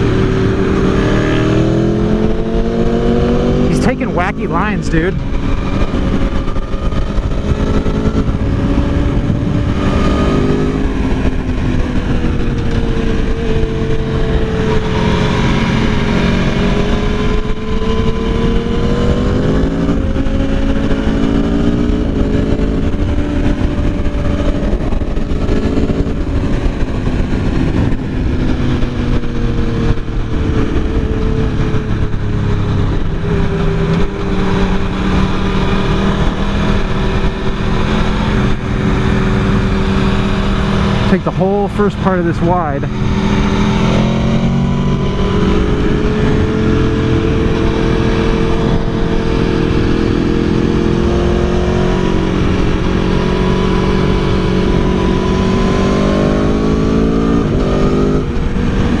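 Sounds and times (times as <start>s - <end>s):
motorcycle engine at speed: 0.0s - 59.0s
wind noise: 0.0s - 59.0s.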